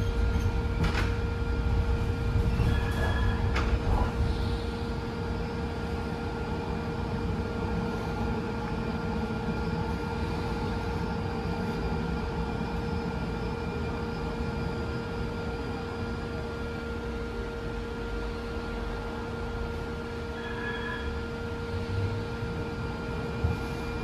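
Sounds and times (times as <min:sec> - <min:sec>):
tram rumbling on track: 0:00.0 - 0:24.0.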